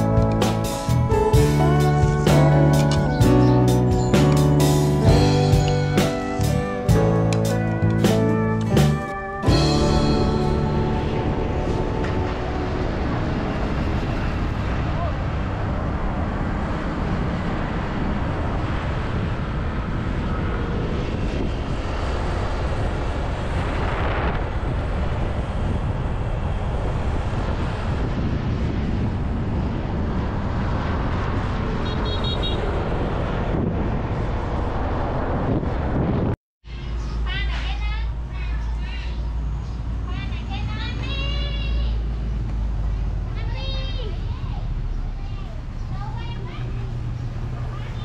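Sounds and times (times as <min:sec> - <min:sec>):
moving vehicle rumbling: 0:00.0 - 0:48.0
road and wind noise: 0:00.0 - 0:48.0.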